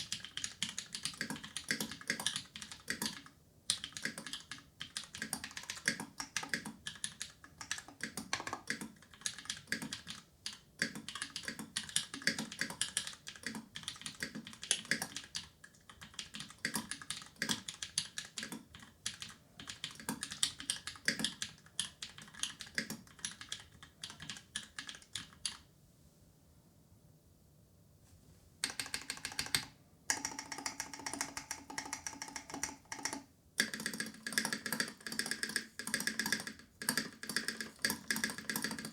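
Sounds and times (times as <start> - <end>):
typing on mechanical keyboard: 0.0 - 25.7, 28.6 - 38.9.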